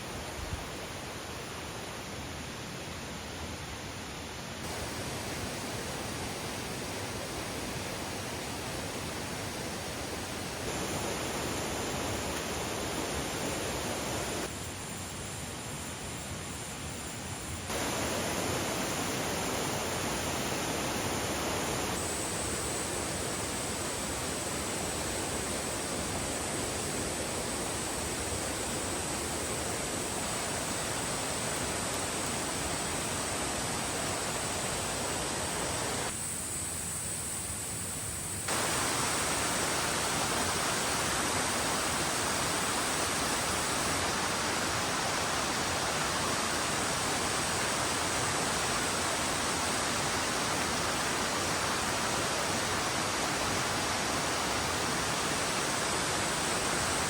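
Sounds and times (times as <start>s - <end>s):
stream rushing over rocks: 0.0s - 36.1s, 38.5s - 57.0s
high insect drone: 0.0s - 57.0s.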